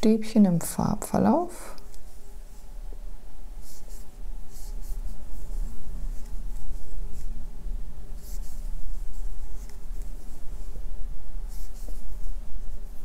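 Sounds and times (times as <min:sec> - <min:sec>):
yarn rustling on crochet hook: 0:00.0 - 0:13.0.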